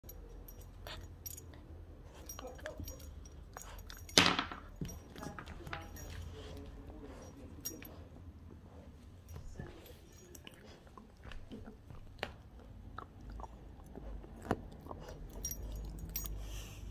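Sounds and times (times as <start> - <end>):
collar and leash clinking: 0.0 - 16.9.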